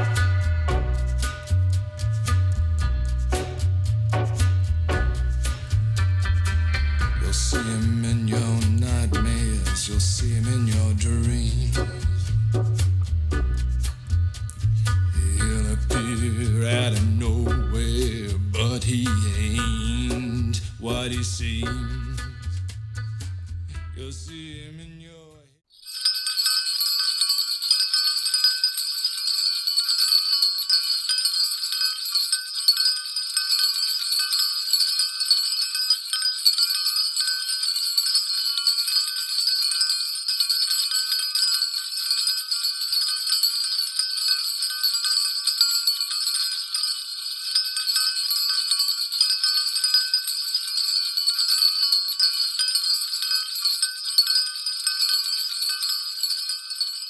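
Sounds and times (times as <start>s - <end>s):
many bells jangling: 0.0s - 4.0s, 5.2s - 23.3s, 25.7s - 57.0s.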